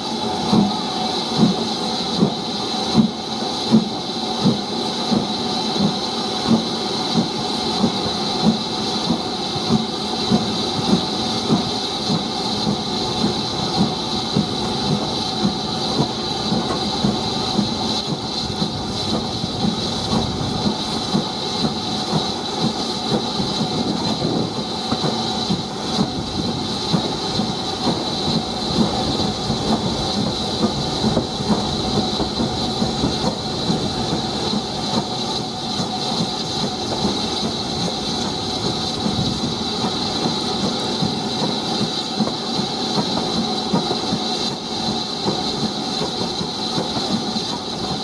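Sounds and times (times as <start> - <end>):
steady steam hiss: 0.0 - 48.0
steam locomotive chuffing: 0.0 - 48.0.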